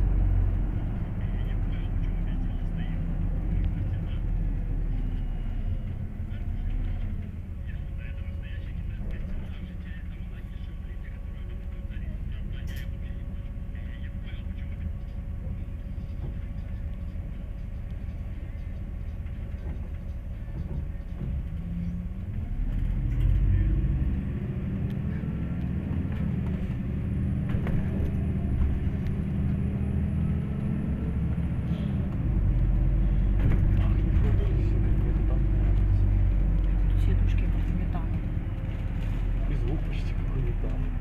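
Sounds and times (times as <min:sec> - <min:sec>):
bus engine rumble: 0:00.0 - 0:41.0.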